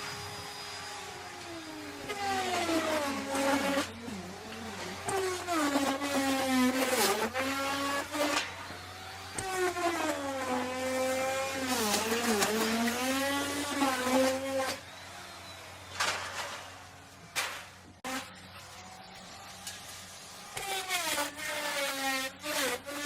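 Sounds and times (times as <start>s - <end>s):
wood router cutting wood: 0.0s - 23.0s.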